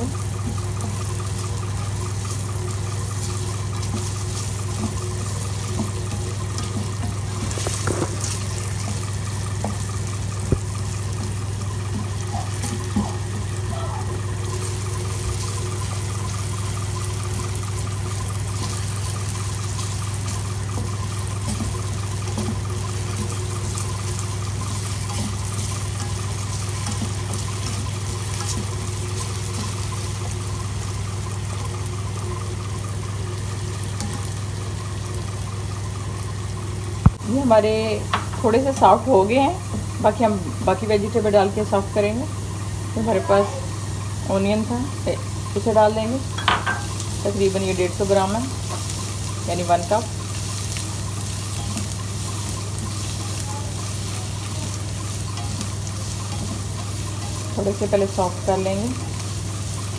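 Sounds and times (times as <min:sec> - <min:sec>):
potato sizzling in oil: 0:00.0 - 0:59.9.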